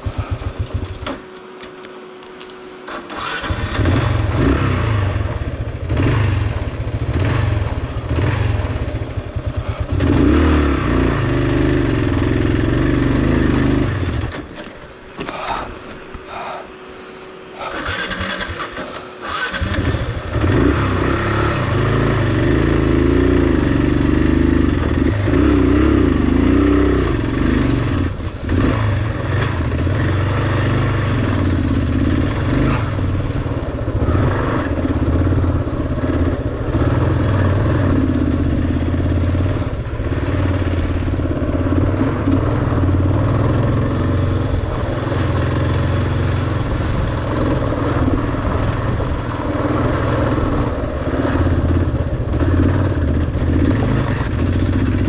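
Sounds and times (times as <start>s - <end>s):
motorcycle engine labouring: 0.0s - 55.0s.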